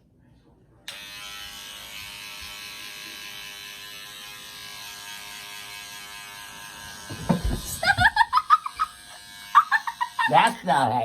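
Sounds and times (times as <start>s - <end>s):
electric razor buzzing: 0.9s - 11.0s.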